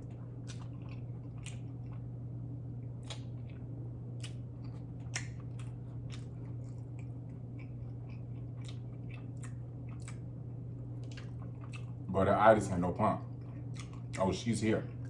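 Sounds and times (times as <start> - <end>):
chewing and crunching: 0.0 - 2.2, 2.8 - 15.0
steady low hum: 0.0 - 15.0.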